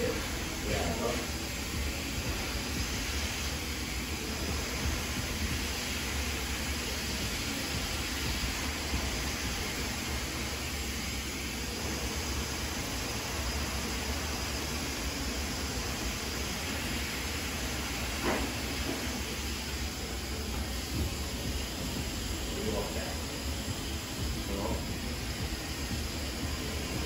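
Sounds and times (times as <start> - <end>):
hair dryer blowing: 0.0 - 27.0.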